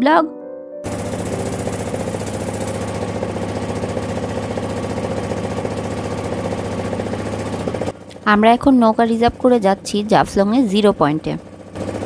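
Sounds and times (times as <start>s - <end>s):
motorboat engine chugging: 0.9s - 12.0s.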